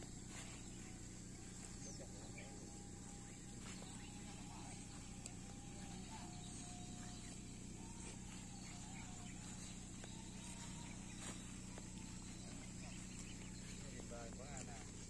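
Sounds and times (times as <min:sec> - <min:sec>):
crickets droning: 0:00.0 - 0:15.0
faint drawn-out tones: 0:00.0 - 0:15.0
low steady hum: 0:00.0 - 0:15.0.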